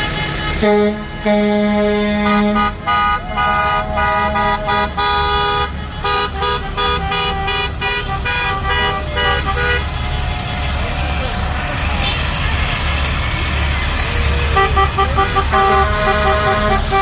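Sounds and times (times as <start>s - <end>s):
vehicle horns honking: 0.0s - 17.0s.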